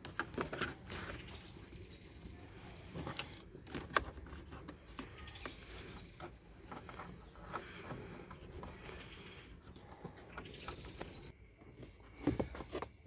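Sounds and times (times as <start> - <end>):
handling noises: 0.0 - 1.9, 2.6 - 13.0.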